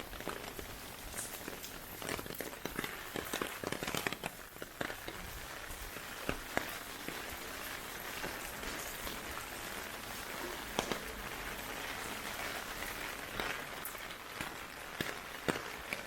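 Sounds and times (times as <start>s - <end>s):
heavy rain hiss: 0.0s - 16.0s
sharp raindrop impacts: 0.0s - 16.0s.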